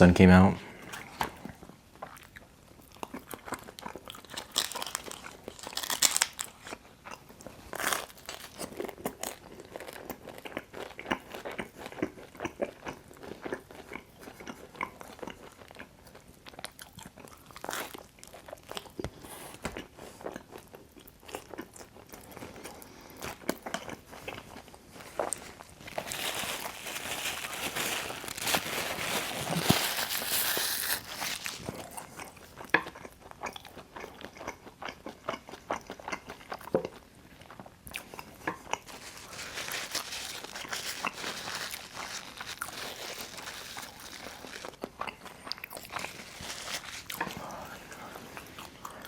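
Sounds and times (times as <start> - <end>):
person chewing pizza: 0.8 - 49.0.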